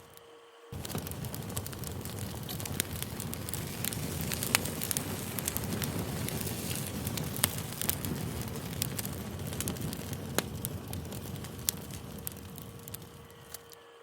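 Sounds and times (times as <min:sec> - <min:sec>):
campfire crackling: 0:00.0 - 0:13.8
fire popping: 0:00.0 - 0:13.8.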